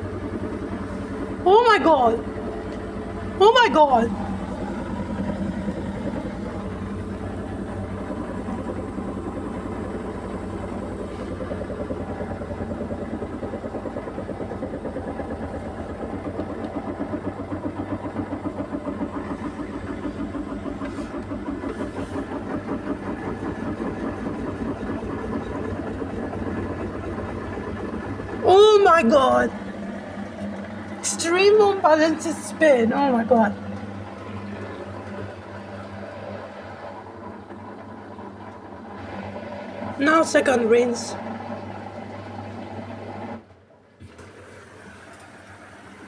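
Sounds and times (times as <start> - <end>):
washing machine spinning: 0.0 - 46.0.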